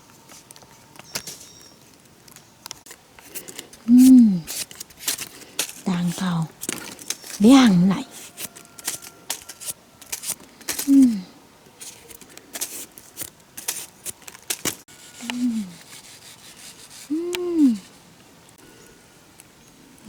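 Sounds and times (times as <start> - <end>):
rustling: 0.0 - 20.0.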